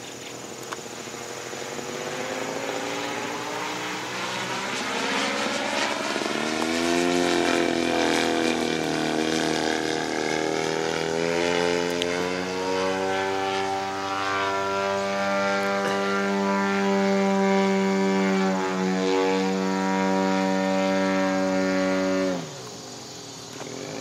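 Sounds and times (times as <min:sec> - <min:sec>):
model airplane engine running: 0:00.0 - 0:24.0.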